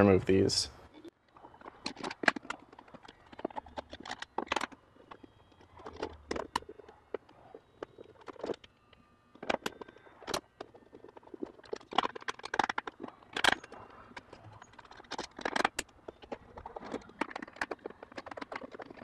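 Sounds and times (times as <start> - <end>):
metal scraping on plastic: 1.0 - 19.0.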